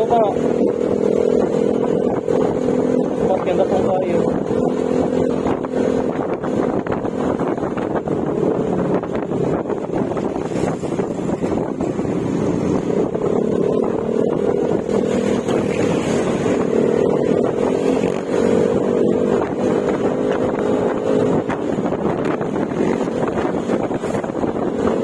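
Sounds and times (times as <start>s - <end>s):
scooter engine droning: 0.0s - 25.0s.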